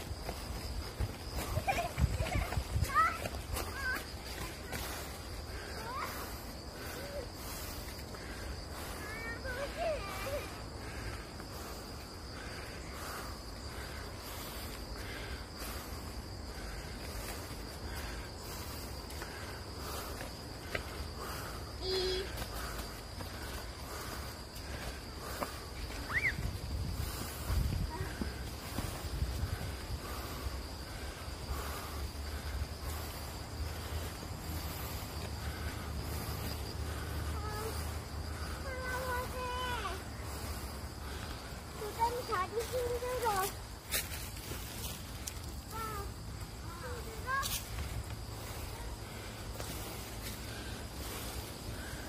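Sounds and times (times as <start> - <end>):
crickets trilling: 0.0 - 52.0
footsteps on dirt path: 0.0 - 52.0.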